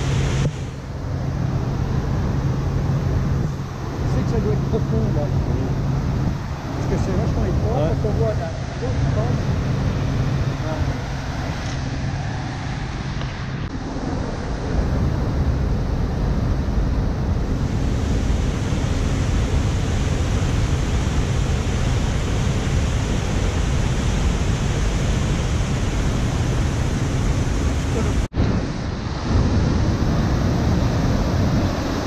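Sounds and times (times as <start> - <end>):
waterfall and river rushing: 0.0 - 32.0.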